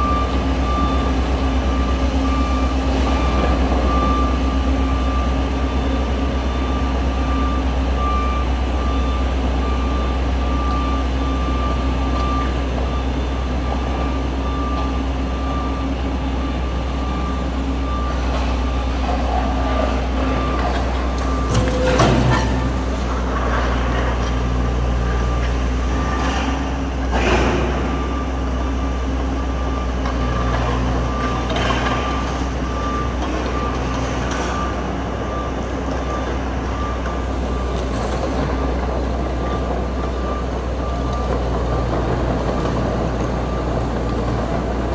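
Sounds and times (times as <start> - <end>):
travel alarm beeping: 0.0 - 23.0, 27.7 - 44.9
excavator diesel engine running: 0.0 - 44.9.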